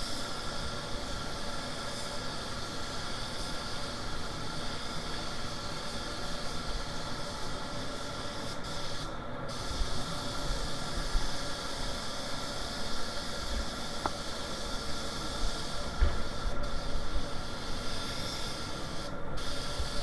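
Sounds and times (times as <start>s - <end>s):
paint spray gun hissing: 0.0s - 20.0s.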